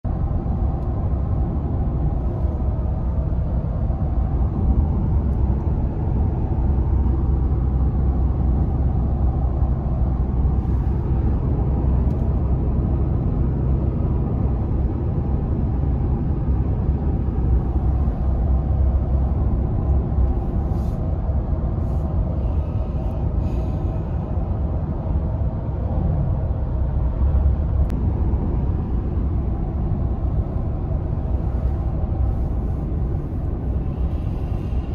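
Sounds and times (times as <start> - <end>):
truck road and engine rumble: 0.0 - 34.9.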